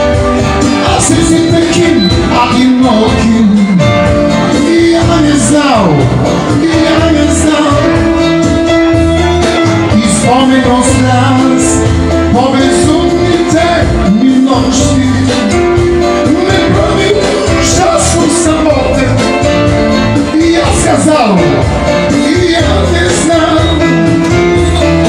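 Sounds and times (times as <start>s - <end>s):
backing track with steady beat: 0.0s - 25.0s
man singing into a microphone: 0.0s - 25.0s.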